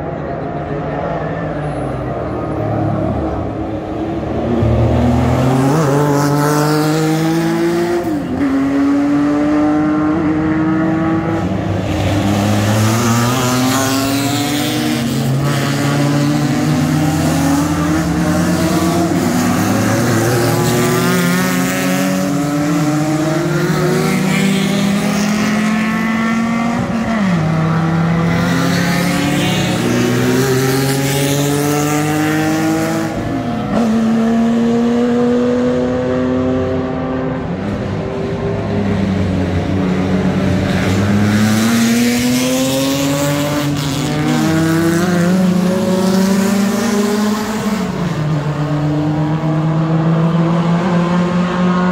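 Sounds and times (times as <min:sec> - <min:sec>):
racing car engines accelerating: 0:00.0 - 0:51.9.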